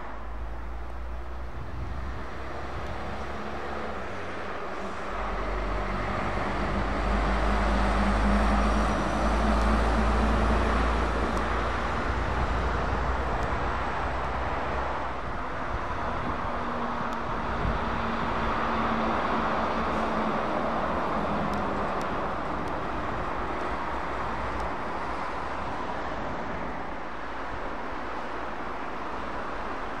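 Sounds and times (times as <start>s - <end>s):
truck engine rumble and tyre noise: 0.0s - 30.0s.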